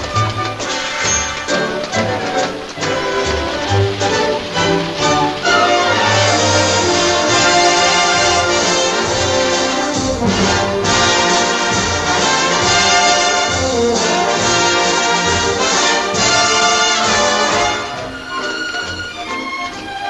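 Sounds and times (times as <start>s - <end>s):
orchestra playing: 0.0s - 20.0s
trombones and trumpets: 0.0s - 20.0s.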